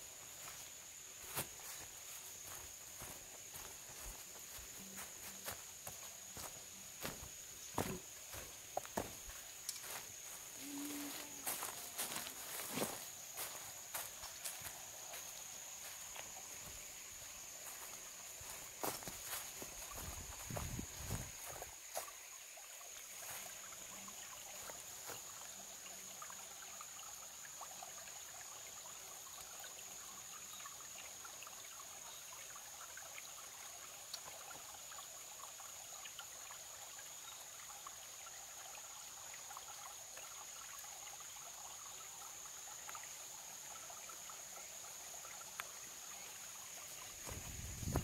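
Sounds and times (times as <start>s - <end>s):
water trickling over rocks: 0.0s - 48.0s.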